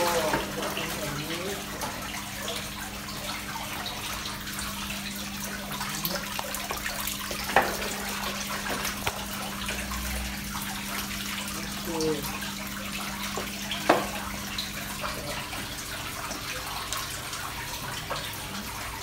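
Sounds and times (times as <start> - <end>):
water splashing: 0.0 - 19.0.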